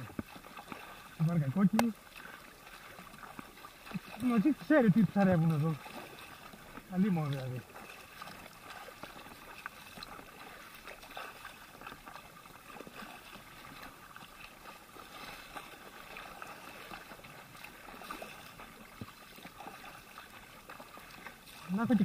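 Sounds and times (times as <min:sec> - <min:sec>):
water lapping and splashing: 0:00.0 - 0:22.0.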